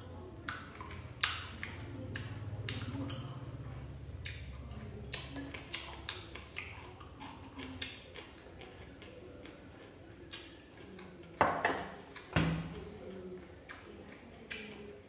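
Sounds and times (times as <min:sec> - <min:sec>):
wet chewing mouth clicks: 0:00.4 - 0:11.4, 0:12.0 - 0:15.0.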